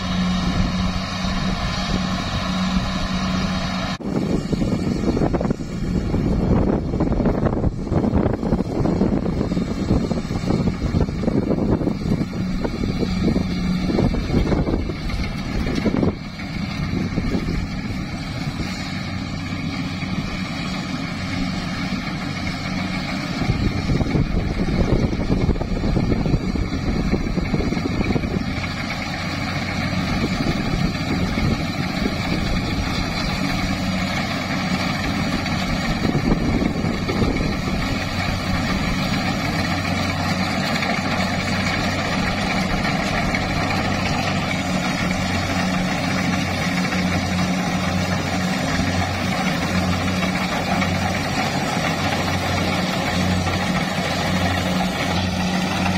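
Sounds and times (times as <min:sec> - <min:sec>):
combine harvester engine humming: 0:00.0 - 0:55.9.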